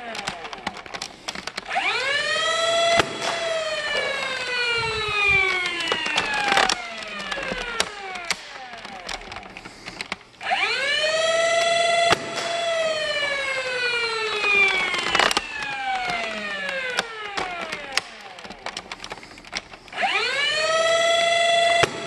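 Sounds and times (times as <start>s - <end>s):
flywheel motor whine: 0.0s - 22.0s
sharp clicks and knocks: 0.0s - 22.0s.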